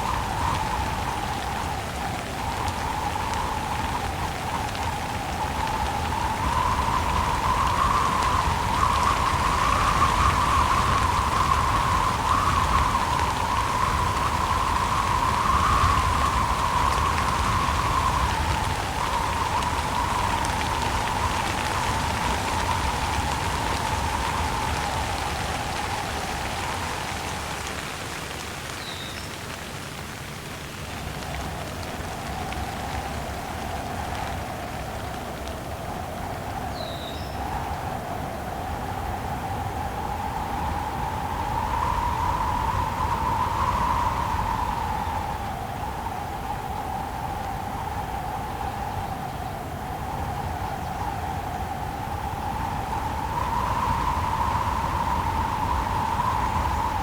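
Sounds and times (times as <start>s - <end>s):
steady rain: 0.0s - 57.0s
wind whistling: 0.0s - 57.0s.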